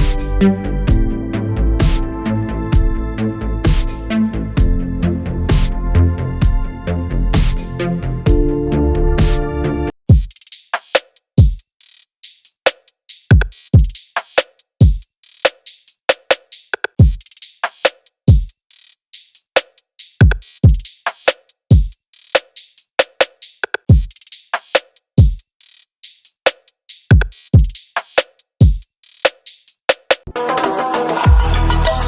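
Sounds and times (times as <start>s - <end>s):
drum machine beat: 0.0s - 32.0s.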